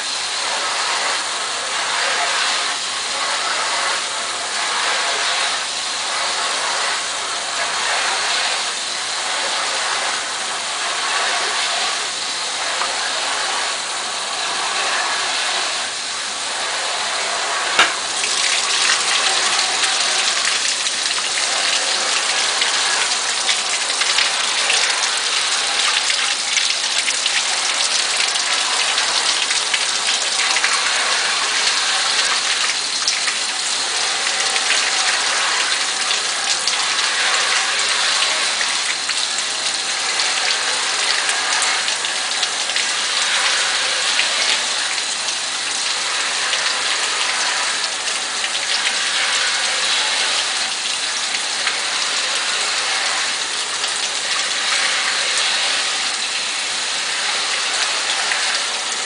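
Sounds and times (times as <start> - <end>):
dishwasher water spraying: 0.0 - 59.0.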